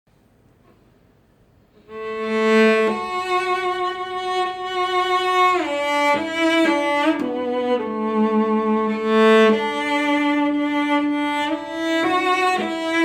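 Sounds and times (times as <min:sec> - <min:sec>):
cello being bowed: 0:01.8 - 0:13.0.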